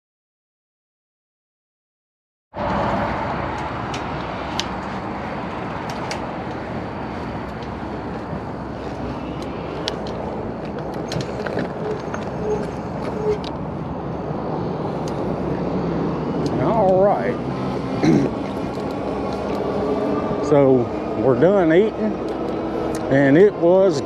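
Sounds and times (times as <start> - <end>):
road traffic noise: 2.5 - 24.0.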